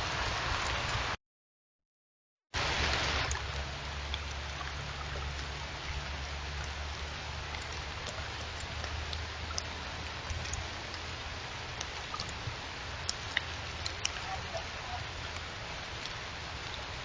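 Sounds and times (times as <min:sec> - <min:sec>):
rain hiss: 0:00.0 - 0:01.2, 0:02.6 - 0:17.0
low steady hum: 0:02.6 - 0:17.0.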